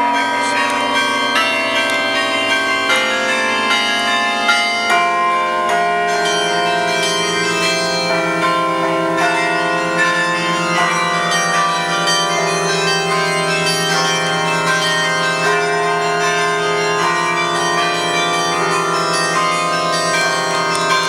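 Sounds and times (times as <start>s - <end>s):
carillon bells ringing: 0.0s - 21.0s.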